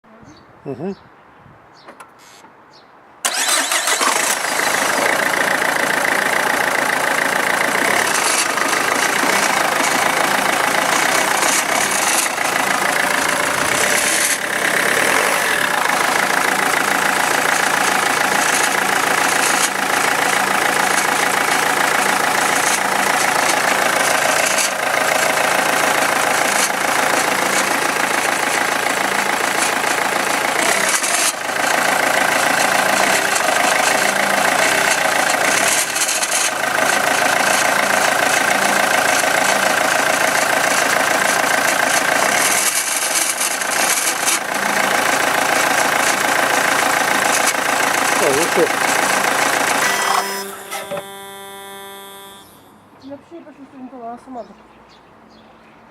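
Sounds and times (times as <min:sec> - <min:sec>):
car engine starting and idling: 0:03.2 - 0:52.9
engine knocking: 0:03.3 - 0:51.9.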